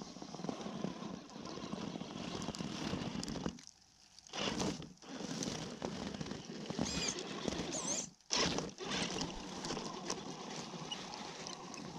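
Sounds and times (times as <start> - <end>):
tires crackling in snow: 0.0 - 11.9.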